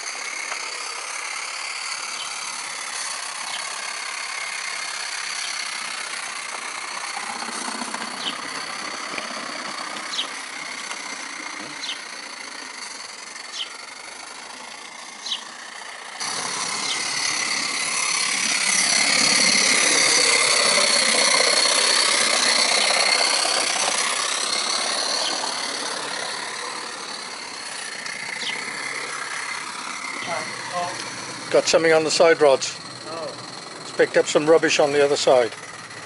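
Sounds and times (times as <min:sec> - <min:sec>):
high whine: 0:00.0 - 0:36.0
model steam locomotive running: 0:00.0 - 0:36.0.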